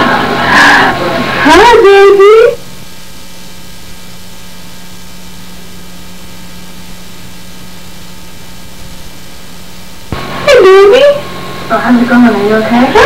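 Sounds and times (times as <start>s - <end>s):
faint high whines: 0.0s - 13.0s
low mains hum: 0.0s - 13.0s
tape hiss: 0.0s - 13.0s.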